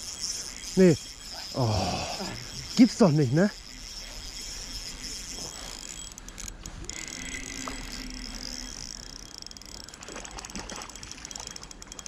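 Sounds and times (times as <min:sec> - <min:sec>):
fishing reel whirring tick: 0:00.0 - 0:12.0.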